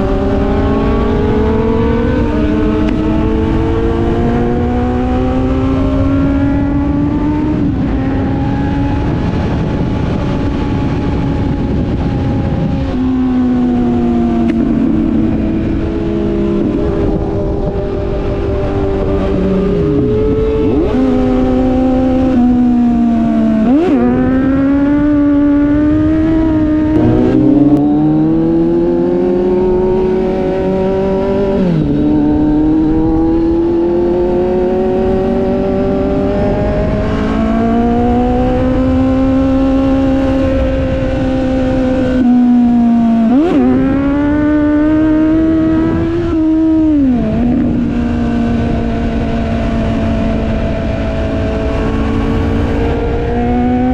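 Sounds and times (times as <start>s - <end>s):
motorcycle engine revving through gears: 0.0s - 53.9s
wind noise on microphone: 0.0s - 53.9s.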